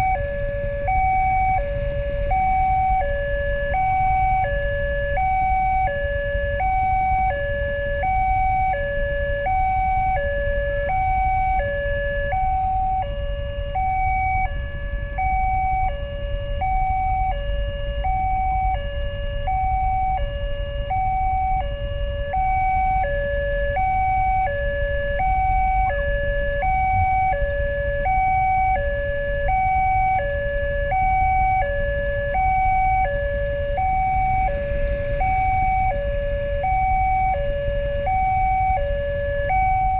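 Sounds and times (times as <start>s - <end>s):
level crossing two-tone alarm: 0.0s - 39.9s
motorcycle engines idling: 0.0s - 39.9s.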